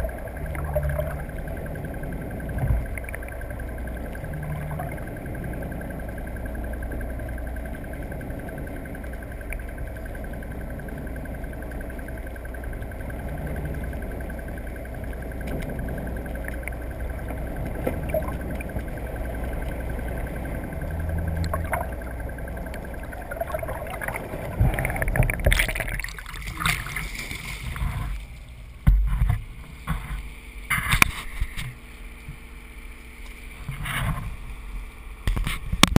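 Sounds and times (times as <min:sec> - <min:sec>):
muffled underwater noise: 0:00.0 - 0:31.8
boat engine rumble: 0:00.0 - 0:36.0
water splashing and sloshing: 0:00.0 - 0:36.0.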